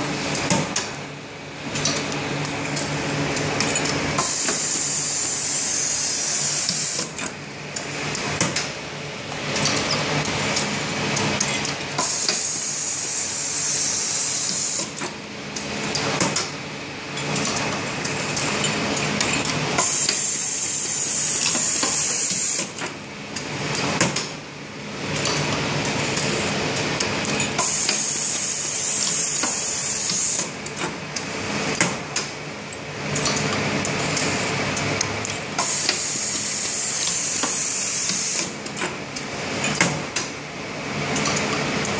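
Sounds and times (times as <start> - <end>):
machine running with small clicks: 0.3 - 1.0, 1.6 - 24.4, 25.0 - 41.9.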